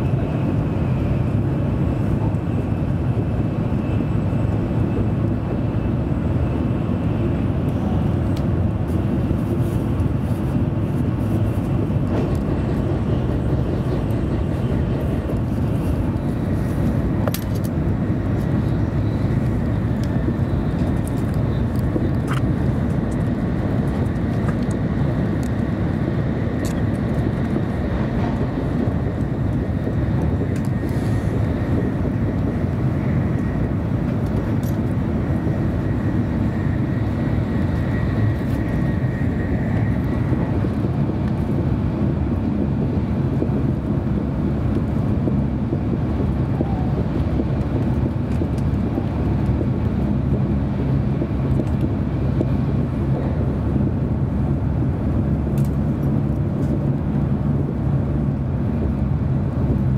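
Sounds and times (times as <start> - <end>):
train cabin rumble: 0.0 - 59.9.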